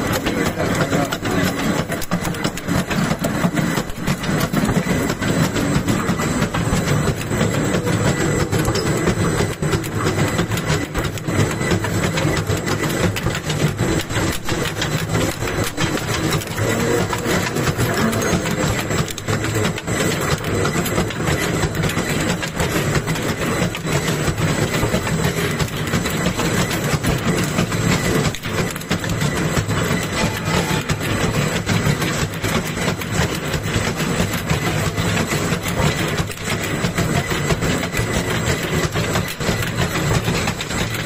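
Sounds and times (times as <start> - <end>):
welding machine mechanical clatter: 0.0 - 41.0.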